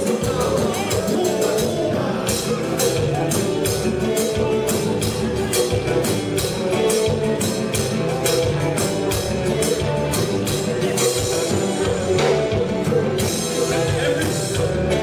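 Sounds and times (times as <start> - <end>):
live band playing: 0.0 - 15.0
steady bass line: 0.0 - 15.0.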